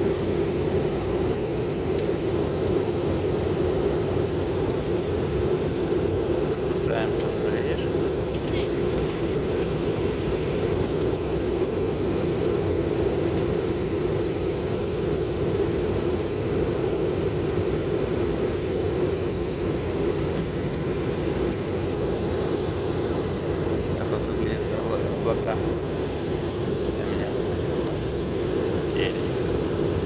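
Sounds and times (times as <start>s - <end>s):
plane engines droning in cabin: 0.0s - 30.0s.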